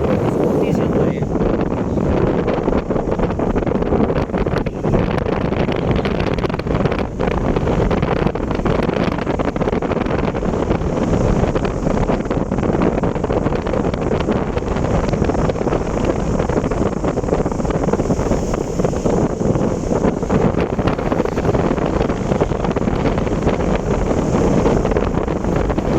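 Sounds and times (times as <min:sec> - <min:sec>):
moving vehicle rumble: 0:00.0 - 0:25.9
wind buffeting microphone: 0:00.0 - 0:25.9.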